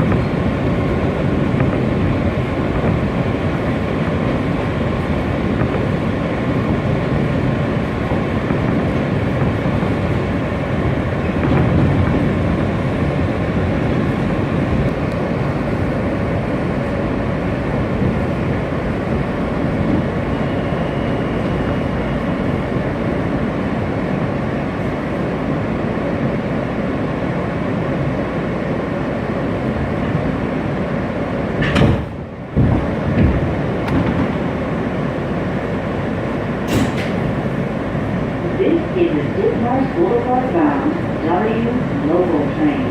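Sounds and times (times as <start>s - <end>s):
subway car rumbling and rattling: 0.0s - 42.9s.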